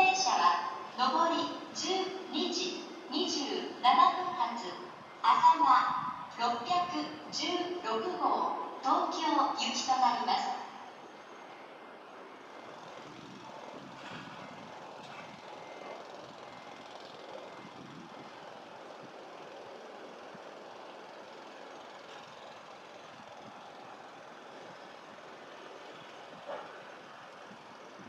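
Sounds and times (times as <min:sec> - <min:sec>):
train rumble and hiss: 0:00.0 - 0:28.0.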